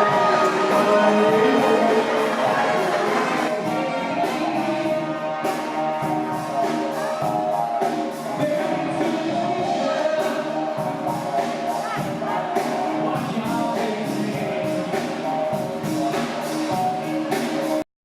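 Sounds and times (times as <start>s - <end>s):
military band music: 0.0s - 17.6s.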